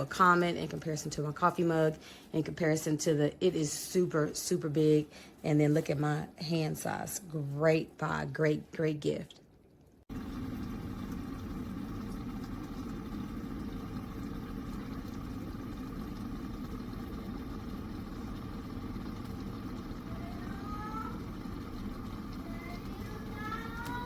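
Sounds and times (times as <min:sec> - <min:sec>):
kettle water boiling: 0:00.0 - 0:09.3, 0:10.0 - 0:24.0.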